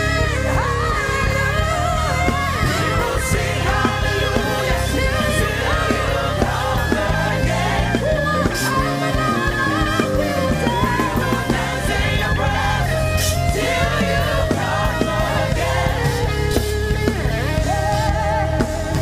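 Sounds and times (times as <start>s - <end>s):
band playing worship music: 0.0s - 19.0s.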